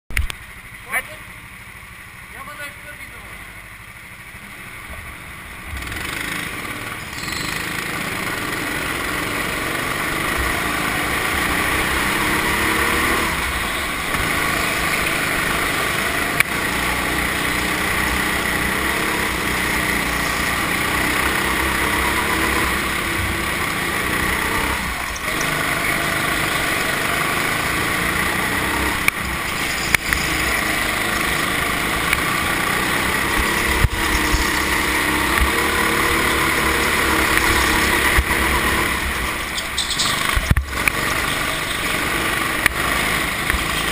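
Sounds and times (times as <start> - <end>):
other kart engines: 0.1 - 43.9
go-kart engine running hard: 0.2 - 43.9.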